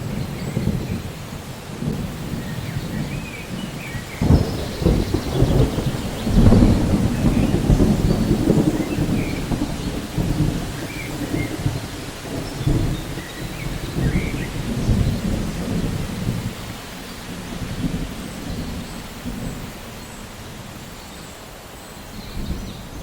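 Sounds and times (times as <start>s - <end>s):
thunder rumbling: 0.0s - 20.9s
steady rain: 0.0s - 23.0s.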